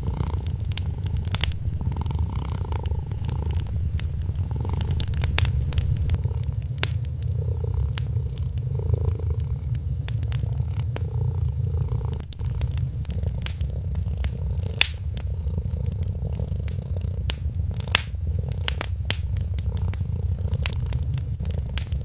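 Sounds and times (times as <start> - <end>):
cat purring: 0.0 - 22.0
fireplace fire crackling and popping: 0.0 - 22.0.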